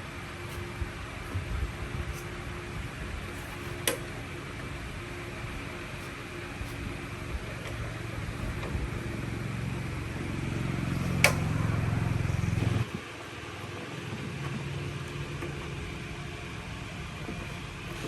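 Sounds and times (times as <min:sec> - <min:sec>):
low-pitched motor running: 0:00.0 - 0:18.0.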